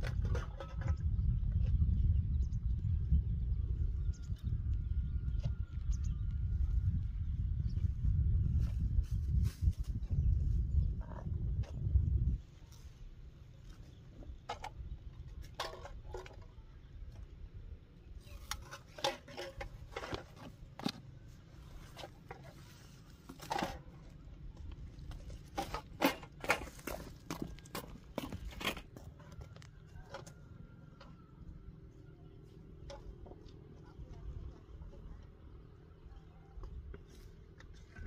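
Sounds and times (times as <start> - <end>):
low steady rumble: 0.0 - 38.0.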